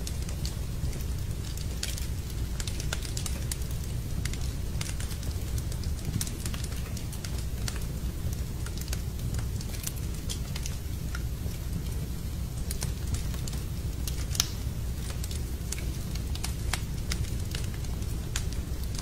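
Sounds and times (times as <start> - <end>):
low fire rumble: 0.0 - 19.0
wood fire crackling: 0.0 - 19.0.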